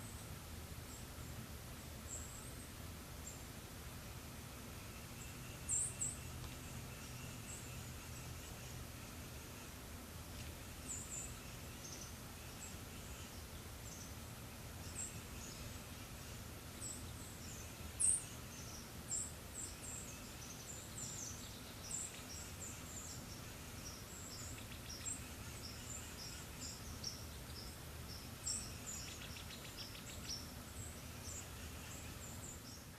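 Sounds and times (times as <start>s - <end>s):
small birds chirping: 0.0s - 3.5s, 4.1s - 32.9s.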